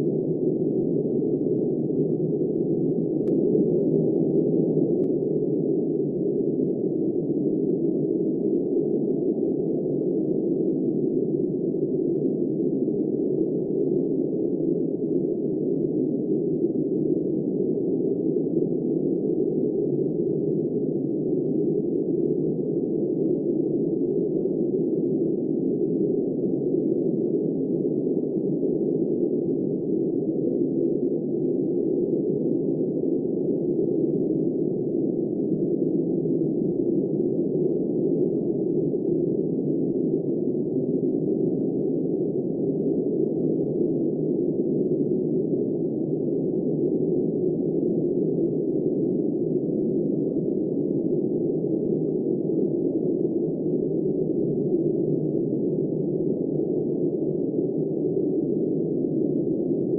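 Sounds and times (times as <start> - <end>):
muffled blizzard wind: 0.0 - 59.9.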